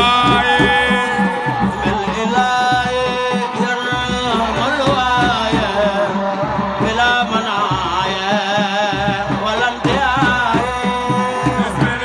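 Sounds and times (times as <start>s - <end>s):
percussion beat: 0.0s - 12.0s
person singing long notes: 0.0s - 12.0s.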